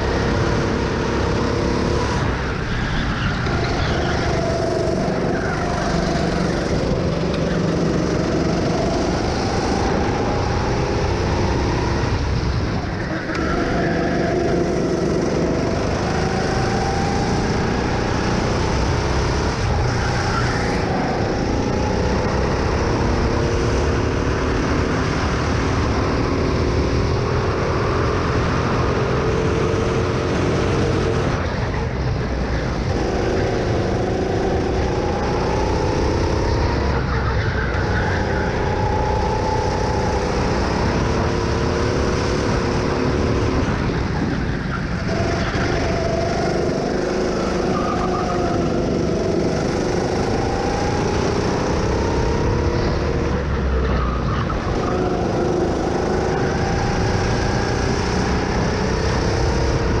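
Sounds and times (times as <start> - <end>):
go-kart engine: 0.0 - 60.0
steady rushing noise: 0.0 - 60.0.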